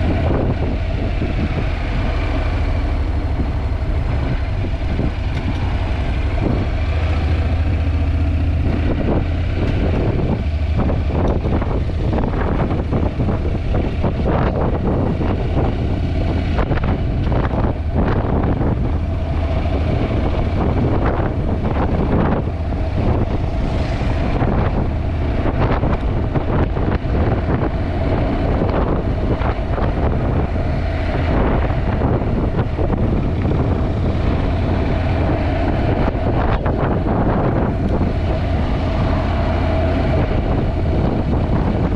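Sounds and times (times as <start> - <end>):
motorcycle engine running: 0.0 - 41.9
wind buffeting microphone: 0.0 - 41.9.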